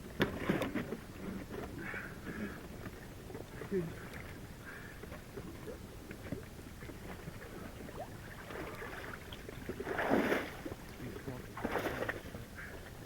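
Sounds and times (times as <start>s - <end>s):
water sloshing and splashing: 0.1s - 13.0s.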